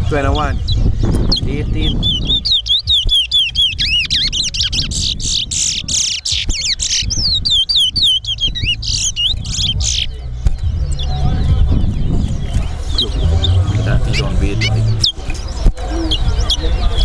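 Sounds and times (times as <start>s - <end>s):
low background rumble: 0.0s - 17.0s
finch singing whistled notes: 0.2s - 17.0s.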